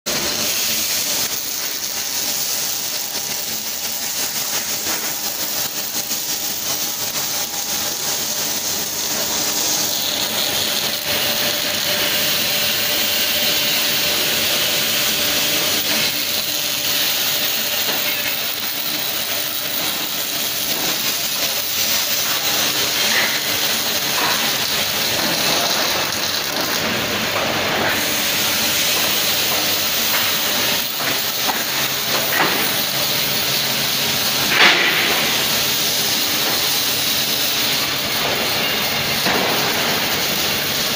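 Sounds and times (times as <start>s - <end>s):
welding arc hiss: 0.1s - 40.9s.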